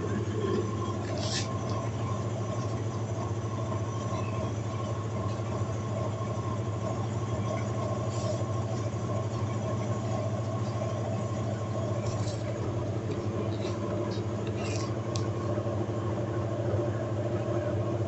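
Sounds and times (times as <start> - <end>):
high whine: 0.0 - 17.8
washing machine humming: 0.0 - 18.0.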